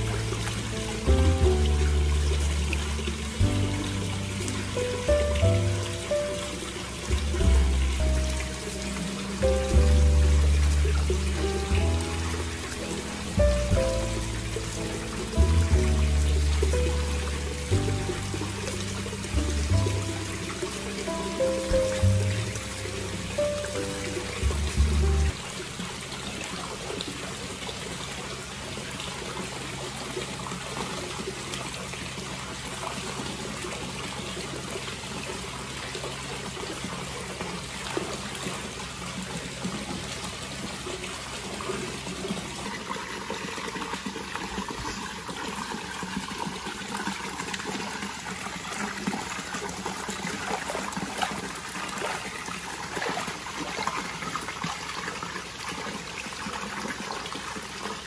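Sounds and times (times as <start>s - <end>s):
water pouring into bath: 0.0s - 58.0s.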